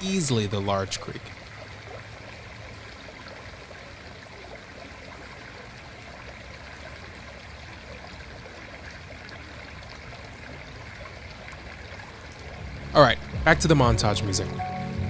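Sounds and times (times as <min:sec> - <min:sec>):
creek flowing: 0:00.0 - 0:15.0.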